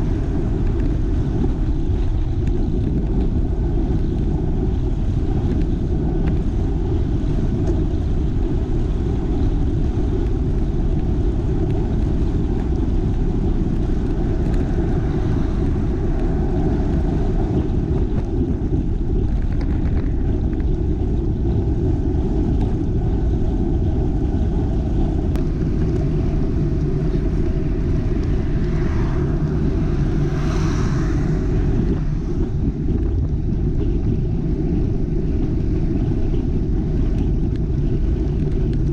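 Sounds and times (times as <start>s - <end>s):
vehicle tyre noise passing: 0.0s - 38.9s
wind buffeting microphone: 0.0s - 38.9s.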